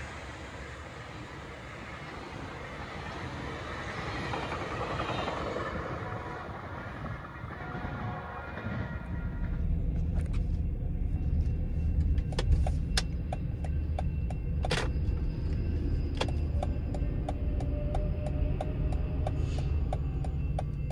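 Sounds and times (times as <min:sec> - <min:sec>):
train rumbling past: 0:00.0 - 0:20.9.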